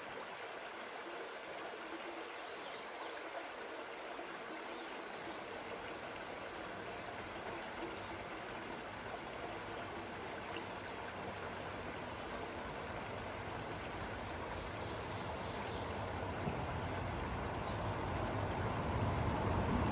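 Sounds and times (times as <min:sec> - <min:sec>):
creek water running over rocks: 0:00.0 - 0:19.9.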